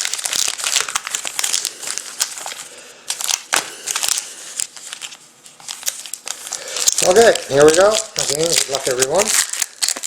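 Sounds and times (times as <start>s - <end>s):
card pack wrappers crinkling: 0.0s - 10.0s.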